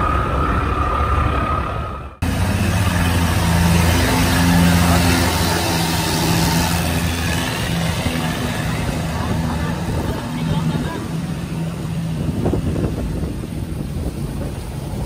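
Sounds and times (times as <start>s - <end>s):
propeller churning water: 0.0s - 15.0s
boat engine running: 2.2s - 15.0s.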